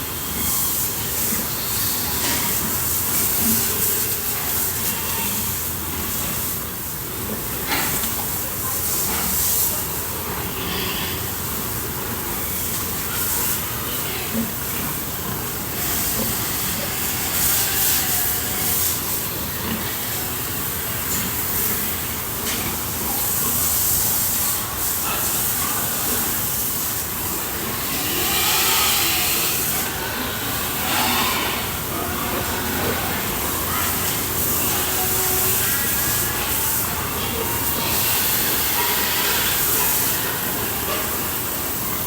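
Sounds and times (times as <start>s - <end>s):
water spraying: 0.0s - 42.0s.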